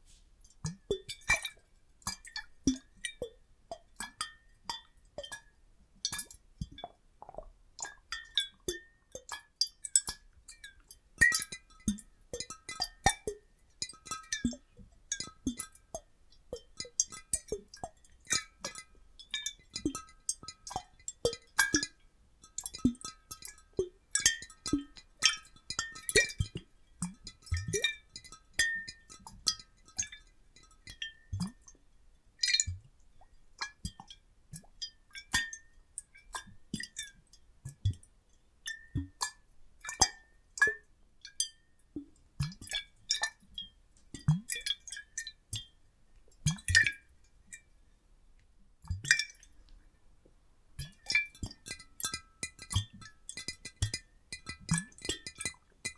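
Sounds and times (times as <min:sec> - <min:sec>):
water sloshing in glass bottles: 0:06.1 - 0:31.8, 0:32.4 - 0:47.7, 0:48.8 - 0:49.7, 0:50.8 - 0:55.9.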